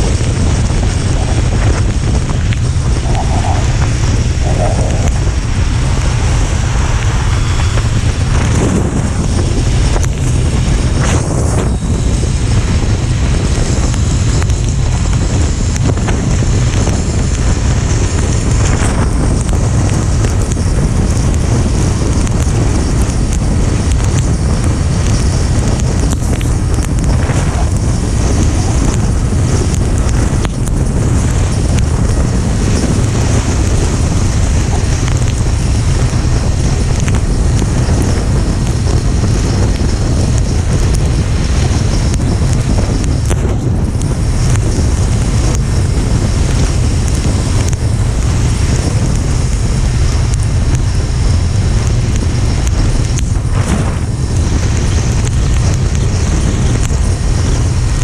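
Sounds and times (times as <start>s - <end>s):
motorcycle engine running: 0.0s - 58.0s
road noise: 0.0s - 58.0s
wind rushing over microphone: 0.0s - 58.0s.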